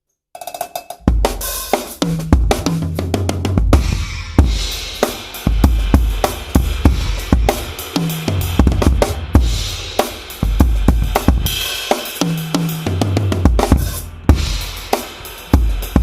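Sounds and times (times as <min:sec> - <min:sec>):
drum kit groove: 0:00.4 - 0:16.0.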